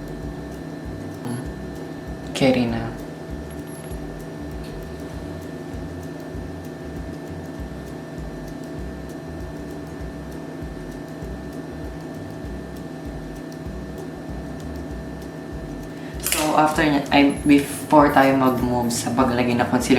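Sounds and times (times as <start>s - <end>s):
faint ticks: 0.0s - 19.9s
mechanical hum: 0.0s - 19.9s.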